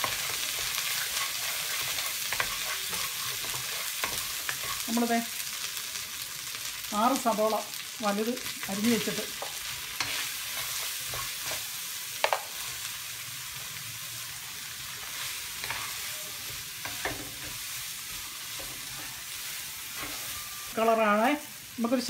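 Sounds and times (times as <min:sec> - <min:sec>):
onions sizzling in butter: 0:00.0 - 0:22.0.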